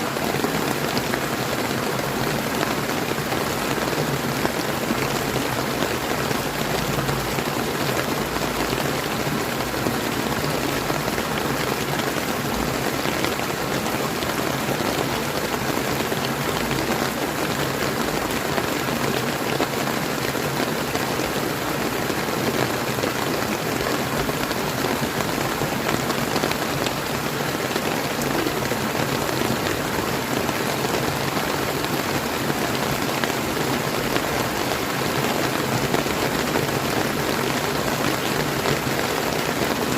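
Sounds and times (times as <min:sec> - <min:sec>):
rain falling: 0:00.0 - 0:39.9
river flowing: 0:00.0 - 0:39.9.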